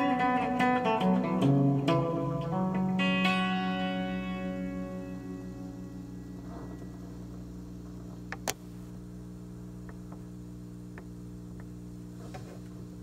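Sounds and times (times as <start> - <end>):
amplifier mains hum: 0.0 - 13.0.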